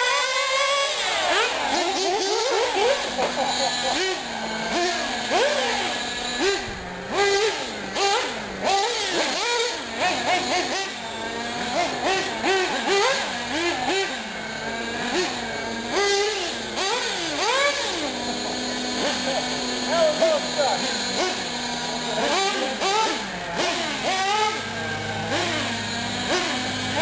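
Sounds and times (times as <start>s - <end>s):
model buggy engines revving: 0.0s - 27.0s.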